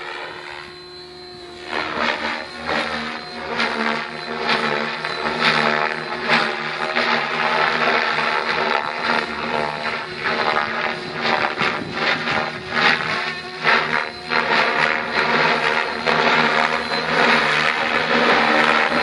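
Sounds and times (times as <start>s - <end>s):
radio-controlled helicopter motor whine: 0.0s - 19.0s.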